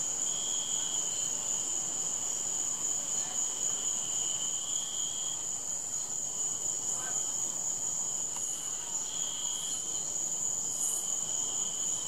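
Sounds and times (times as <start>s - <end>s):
crickets trilling: 0.0s - 12.0s
lower cricket trill: 0.0s - 12.0s.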